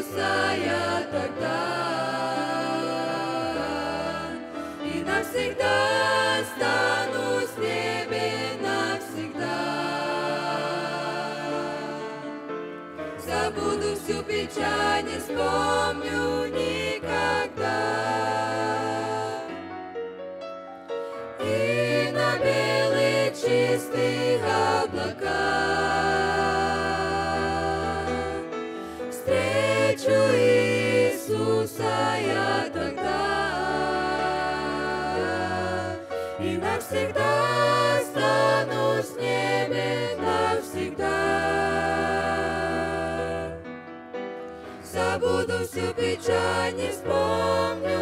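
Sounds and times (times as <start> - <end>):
vocal group singing in harmony: 0.0 - 19.9, 21.0 - 48.0.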